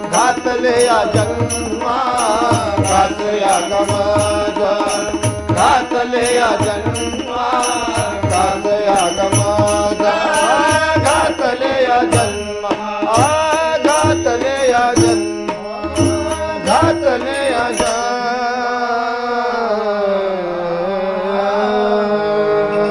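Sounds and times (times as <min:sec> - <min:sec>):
harmonium: 0:00.0 - 0:22.9
tabla: 0:00.0 - 0:22.9
voices singing: 0:00.0 - 0:22.9.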